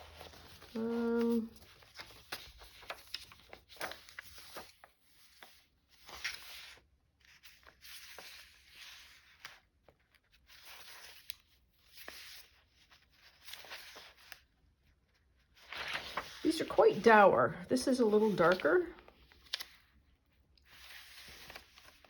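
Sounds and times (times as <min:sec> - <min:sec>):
paper rustling: 0:00.0 - 0:22.0.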